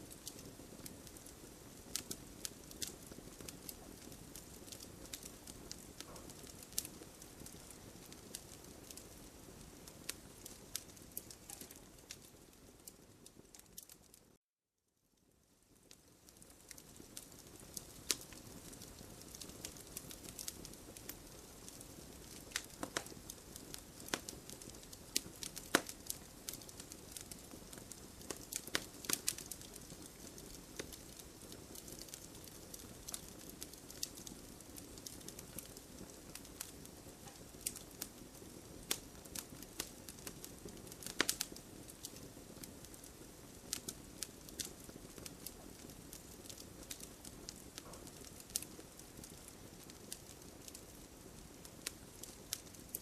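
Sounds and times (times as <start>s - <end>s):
campfire crackling: 0.0s - 14.3s, 15.5s - 53.0s.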